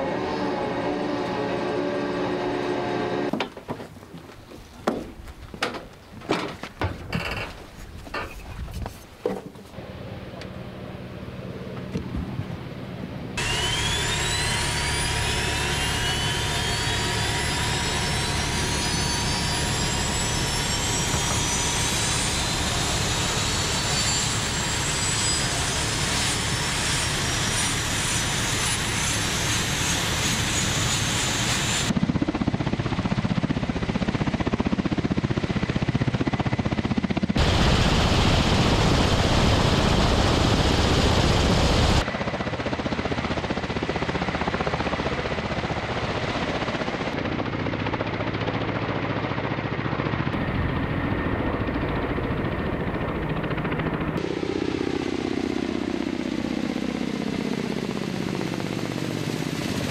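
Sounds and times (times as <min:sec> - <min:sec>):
helicopter lifting off: 0:09.8 - 0:59.9
helicopter turbines spooling up: 0:09.8 - 0:59.9.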